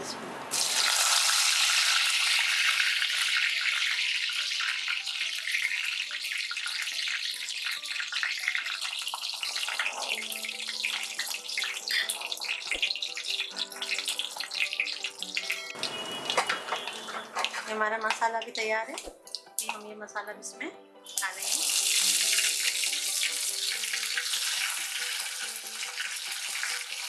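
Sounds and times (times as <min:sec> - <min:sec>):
oil sizzling and crackling: 0:00.5 - 0:19.8, 0:21.0 - 0:27.0.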